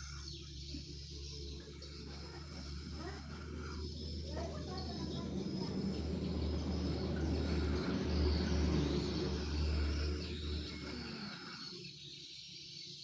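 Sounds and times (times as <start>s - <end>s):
vehicle engine hum: 0.0s - 11.8s.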